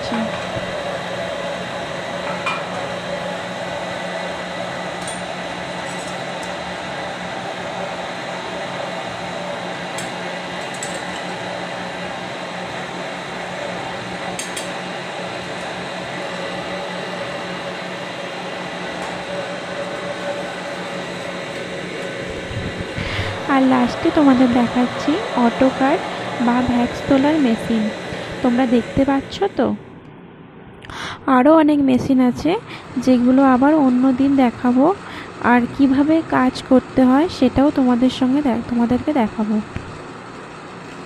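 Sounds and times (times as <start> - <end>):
metal melting machine humming: 0.0 - 30.2, 30.8 - 41.0.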